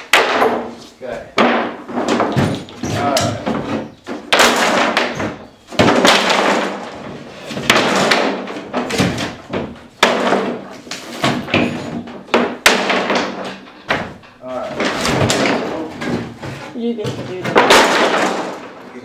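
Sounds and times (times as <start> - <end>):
wooden boards cracking and banging: 0.0 - 19.0.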